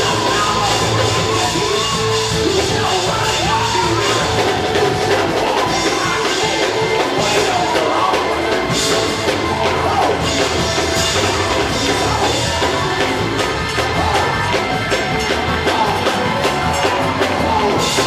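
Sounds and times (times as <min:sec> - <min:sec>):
live church music: 0:00.0 - 0:18.0
people singing and shouting: 0:00.0 - 0:18.0.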